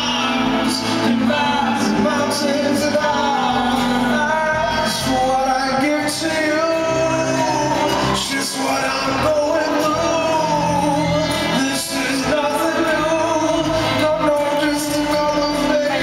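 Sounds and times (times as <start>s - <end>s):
acoustic guitar: 0.0s - 16.0s
person singing slow song: 0.0s - 16.0s.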